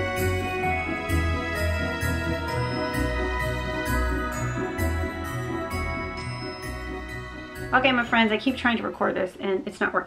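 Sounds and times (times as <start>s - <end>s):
christmas music with sleigh bells: 0.0s - 9.2s
christmas music: 0.0s - 9.4s.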